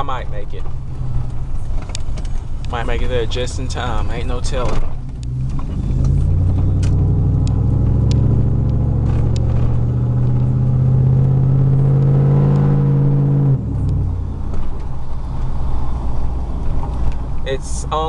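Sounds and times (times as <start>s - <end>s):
truck engine while driving: 0.0s - 18.0s.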